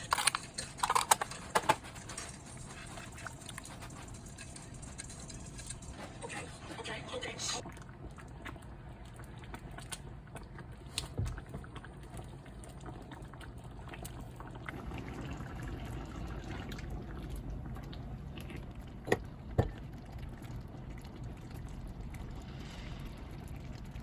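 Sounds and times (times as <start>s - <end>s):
soup sloshing and bubbling in pot: 0.0s - 6.3s, 7.6s - 24.0s.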